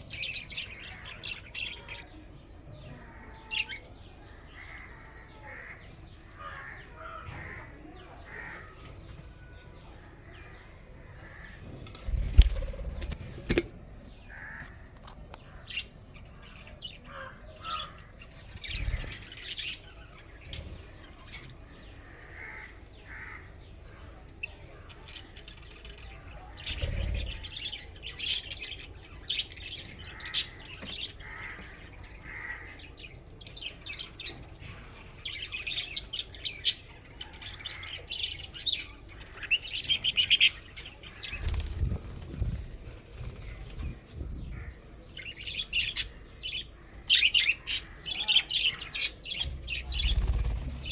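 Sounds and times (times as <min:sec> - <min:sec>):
budgerigars chirping and chattering: 0:00.0 - 0:14.7, 0:16.9 - 0:50.9.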